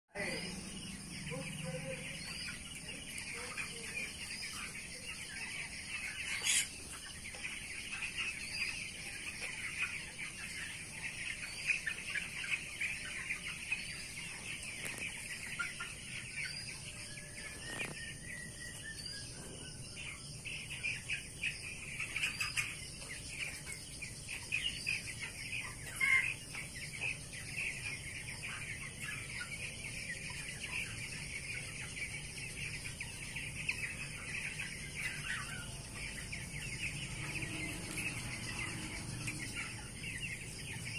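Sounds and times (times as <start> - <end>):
chicks peeping: 0.1 - 40.9.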